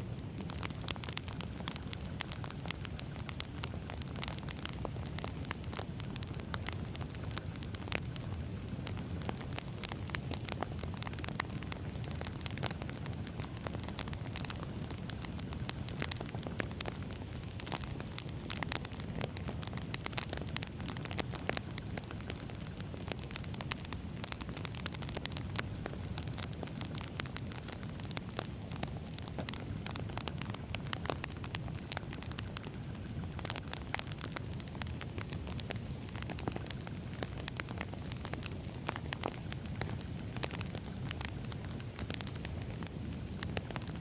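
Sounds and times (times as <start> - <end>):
burning logs crackling and popping: 0.0 - 44.0
wood fire burning: 0.0 - 44.0.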